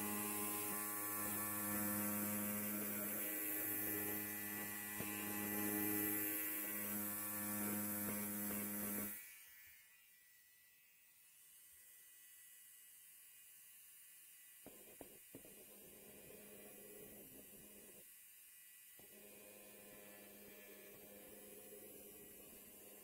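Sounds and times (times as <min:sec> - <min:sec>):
electric hair clipper buzzing: 0:00.0 - 0:23.0.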